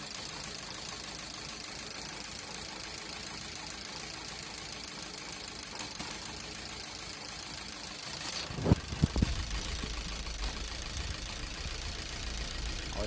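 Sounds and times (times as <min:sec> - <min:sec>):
engine idling with misfire: 0:00.0 - 0:13.0
rapid injector ticking: 0:00.0 - 0:13.0.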